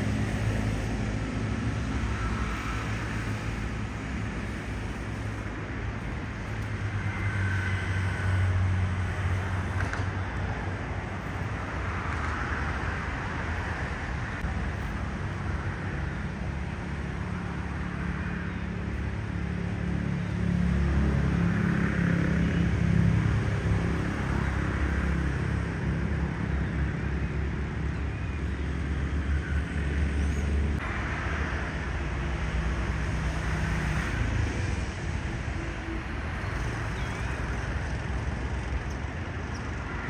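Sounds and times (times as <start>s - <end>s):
road rumble: 0.0s - 40.0s.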